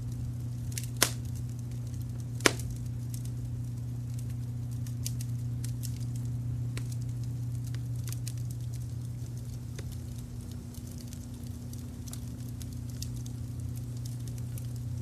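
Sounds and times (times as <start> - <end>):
low brown noise rumble: 0.0 - 15.0
wood fire crackling and popping: 0.0 - 15.0.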